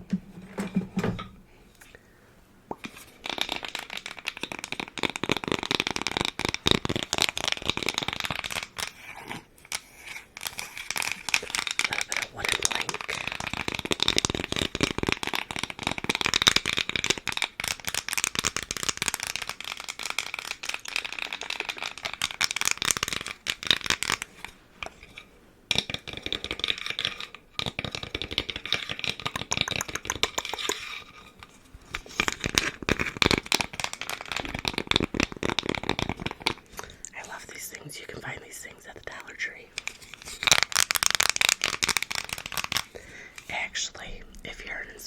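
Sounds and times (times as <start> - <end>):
tapping and scratching on wood: 2.8 - 8.9, 10.4 - 36.7, 39.8 - 43.5.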